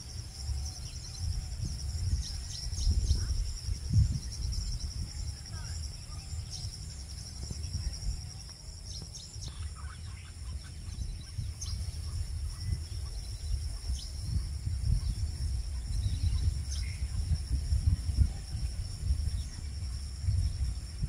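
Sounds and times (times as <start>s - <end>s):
high insect trill: 0.0s - 21.0s
low microphone rumble: 0.0s - 21.0s.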